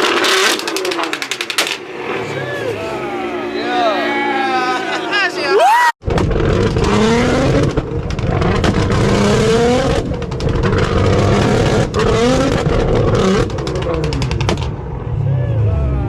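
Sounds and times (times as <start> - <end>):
car engine revving: 0.0 - 5.1, 6.1 - 16.0.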